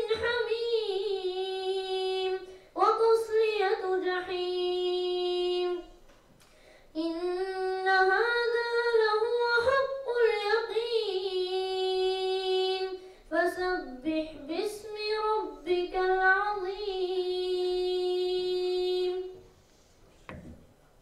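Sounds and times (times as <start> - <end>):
boy chanting into a microphone: 0.0 - 6.0, 7.0 - 19.4.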